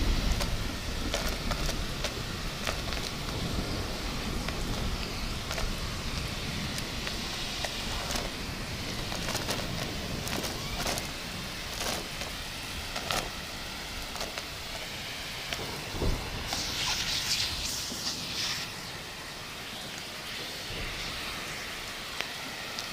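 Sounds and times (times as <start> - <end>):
bright hissing rush: 0.0 - 22.9
heavy rain: 0.0 - 22.9.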